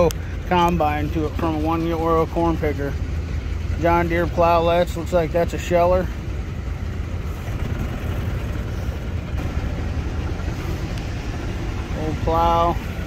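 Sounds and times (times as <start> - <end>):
low engine rumble: 0.0 - 13.0
outdoor background noise: 0.0 - 13.0.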